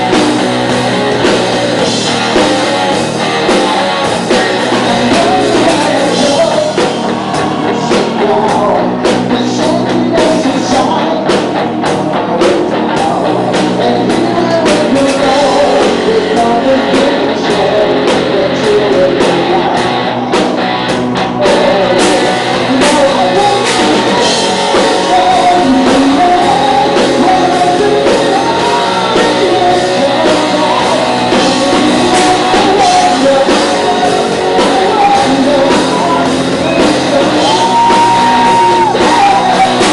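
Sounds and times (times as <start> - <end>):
bass guitar: 0.0 - 39.9
distorted guitars: 0.0 - 39.9
drum kit: 0.0 - 39.9
person singing: 0.0 - 39.9.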